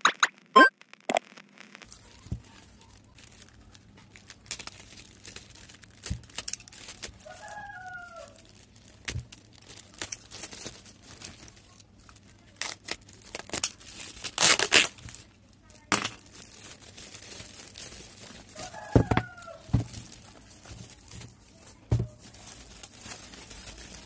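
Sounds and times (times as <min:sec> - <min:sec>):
plastic bag crinkling: 0:01.8 - 0:24.0.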